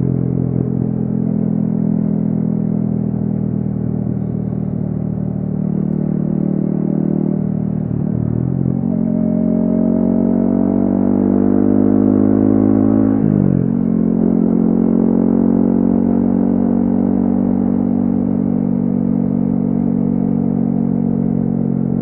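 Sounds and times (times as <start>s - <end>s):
motorcycle engine while riding: 0.0s - 22.0s.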